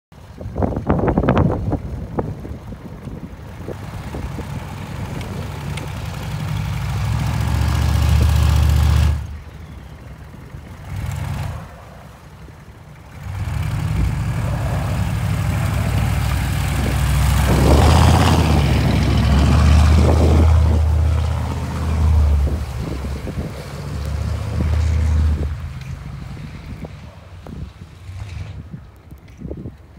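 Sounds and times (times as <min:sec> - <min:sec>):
diesel truck engine working: 0:00.2 - 0:29.0.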